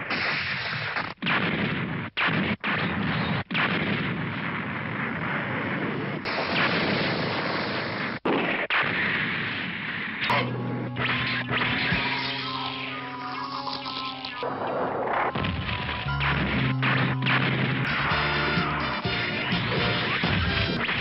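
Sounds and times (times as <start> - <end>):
explosions: 0.0 - 10.4, 13.3 - 21.0
weapon fire: 0.0 - 10.4, 11.0 - 14.1, 15.0 - 21.0.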